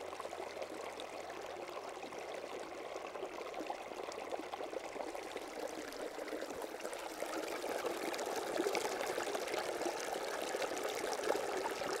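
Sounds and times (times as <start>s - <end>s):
water trickling and pouring: 0.0s - 12.0s.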